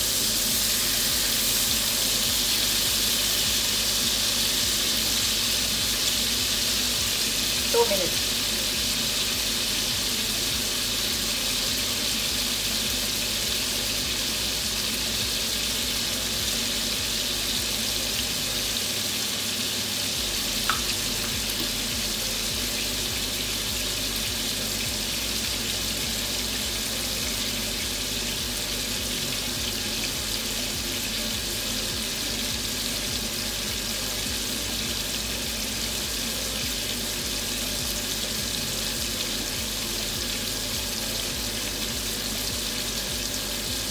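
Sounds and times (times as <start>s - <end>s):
meat sizzling in frying pan: 0.0s - 43.9s.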